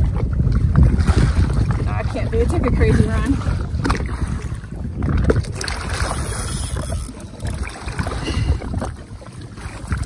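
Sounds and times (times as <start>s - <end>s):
water sloshing: 0.0s - 10.0s
wind buffeting microphone: 0.0s - 10.0s.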